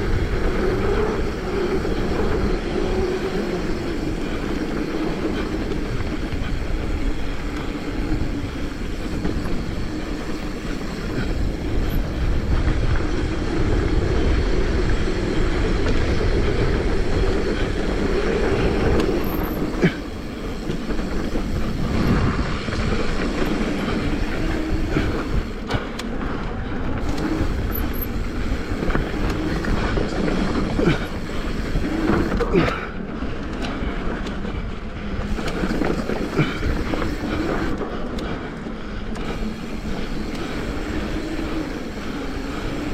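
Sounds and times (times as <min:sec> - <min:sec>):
bike rattling: 0:00.0 - 0:42.9
tyres on dirt: 0:00.0 - 0:42.9
wind rumble: 0:00.0 - 0:42.9.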